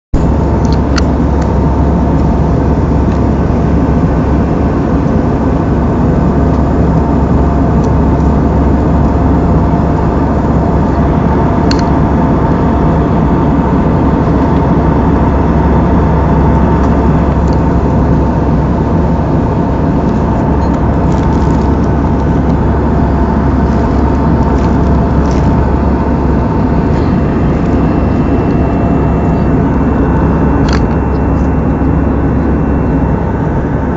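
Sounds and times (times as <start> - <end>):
faint steady hums: 0.2 - 33.9
jet airliner cabin noise: 0.2 - 33.9.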